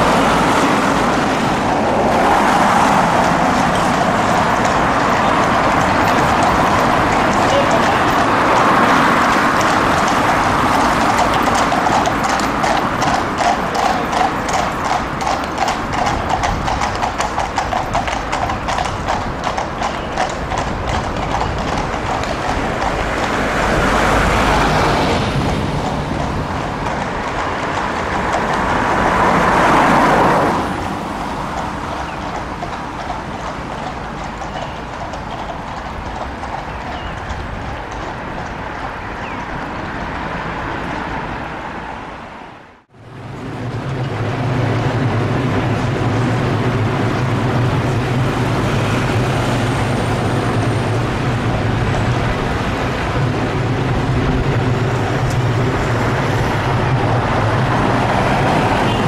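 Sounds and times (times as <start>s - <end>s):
horse hooves on tarmac: 0.0s - 42.4s, 43.1s - 59.0s
passing traffic: 0.0s - 59.0s.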